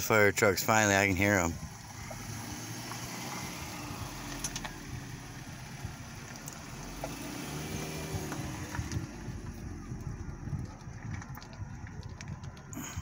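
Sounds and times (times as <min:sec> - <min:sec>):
faint wind noise: 0:00.0 - 0:13.0
vehicle engines rumbling: 0:00.0 - 0:13.0.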